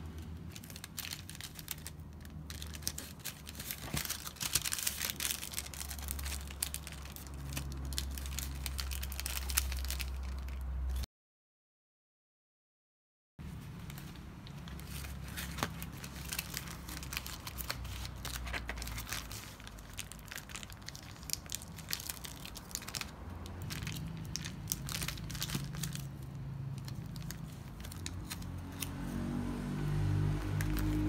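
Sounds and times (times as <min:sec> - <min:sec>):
foil bubble mailer crackling: 0:00.0 - 0:11.0, 0:13.6 - 0:29.1, 0:30.4 - 0:31.0
paper packaging crinkling: 0:00.0 - 0:11.0, 0:13.5 - 0:29.2, 0:30.4 - 0:31.0.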